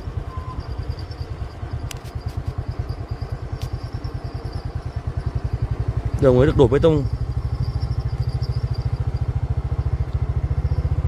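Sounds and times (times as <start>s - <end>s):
small motorcycle engine putter: 0.1s - 11.0s.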